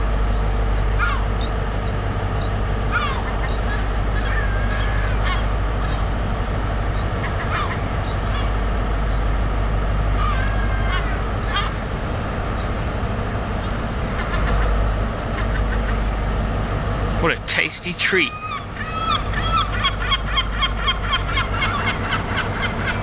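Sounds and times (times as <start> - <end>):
gull calling: 0.0 - 23.0
steady low rumble: 0.0 - 23.0.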